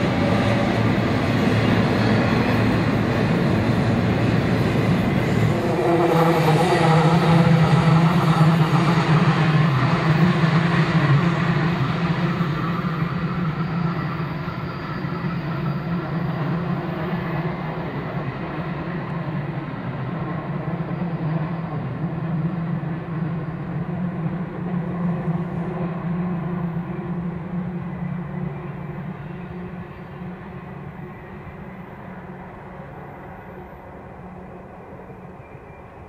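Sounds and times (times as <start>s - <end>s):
freight train low drone: 0.0s - 36.0s.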